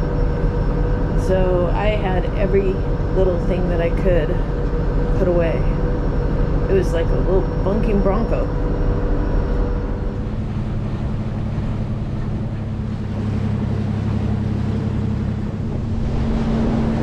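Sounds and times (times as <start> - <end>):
diesel engine droning: 0.0 - 17.0
water noise: 0.0 - 17.0
wind: 0.0 - 17.0.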